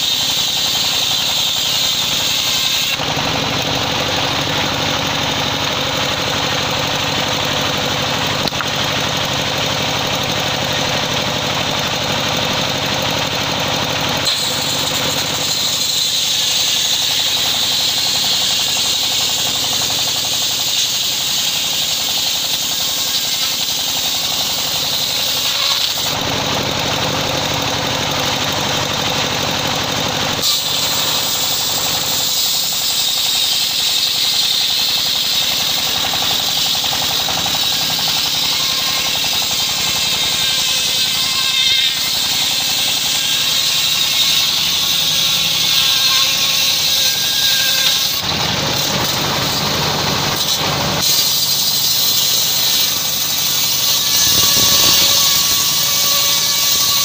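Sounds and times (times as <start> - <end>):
circular saw cutting a log: 0.0 - 57.0.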